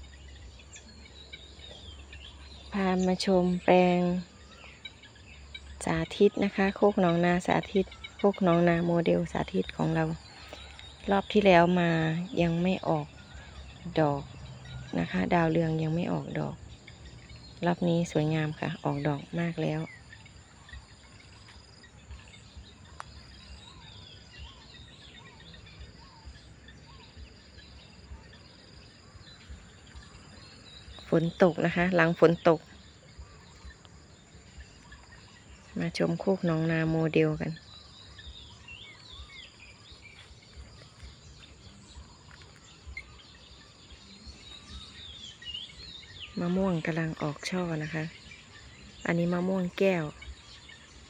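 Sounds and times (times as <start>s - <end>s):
bird chirps: 0.0s - 51.0s
high insect hum: 0.0s - 51.0s
dull low bumps: 7.2s - 48.8s.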